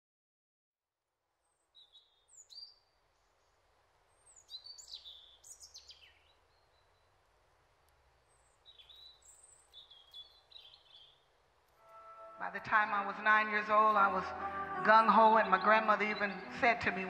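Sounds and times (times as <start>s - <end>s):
low steady background hiss: 1.3s - 17.0s
birds chirping: 1.6s - 7.2s, 8.2s - 17.0s.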